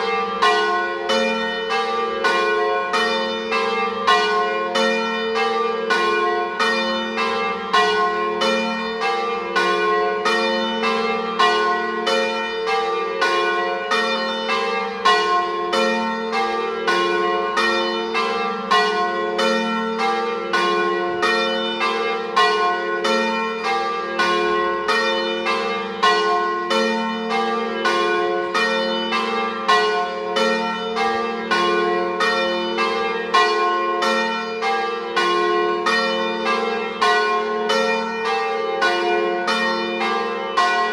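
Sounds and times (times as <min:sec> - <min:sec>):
church bells pealing: 0:00.0 - 0:40.9.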